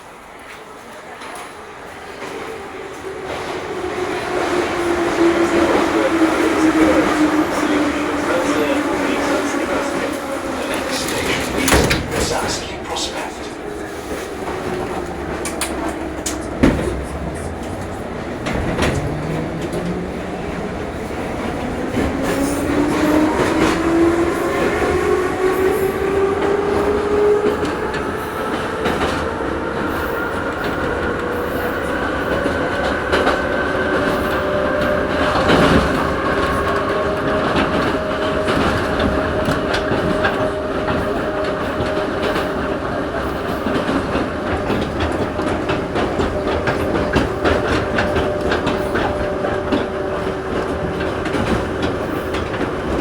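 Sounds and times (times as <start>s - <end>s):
wheels clicking over rail joints: 5.2s - 24.5s, 25.6s - 53.0s.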